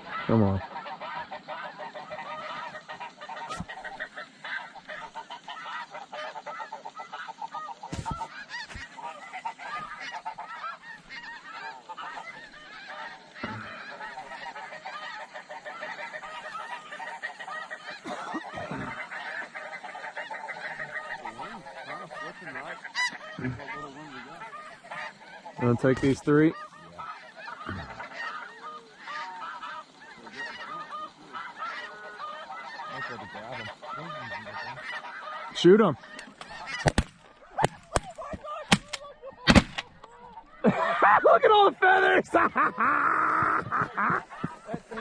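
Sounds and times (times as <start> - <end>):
flock of geese calling: 0.0 - 45.0.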